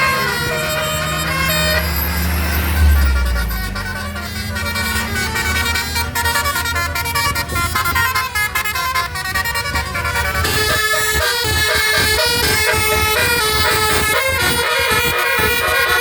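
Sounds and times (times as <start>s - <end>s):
bus engine rumble: 0.0s - 16.0s
musical bus horn: 0.0s - 16.0s.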